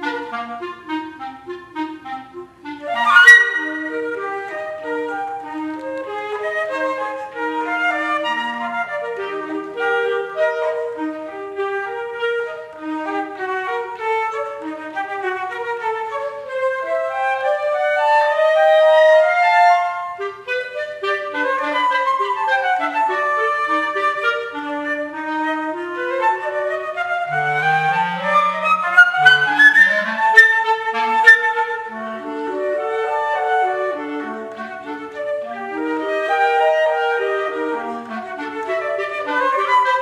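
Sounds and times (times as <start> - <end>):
flute and clarinet duet: 0.0 - 40.0.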